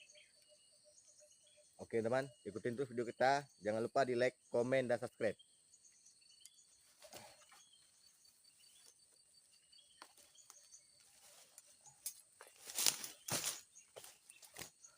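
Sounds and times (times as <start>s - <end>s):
small birds chirping: 0.0s - 14.9s.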